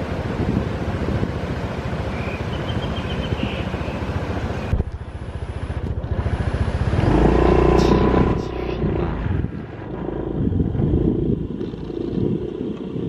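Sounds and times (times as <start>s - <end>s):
motorbike engine running: 0.0s - 13.0s
steady whine: 0.0s - 13.0s.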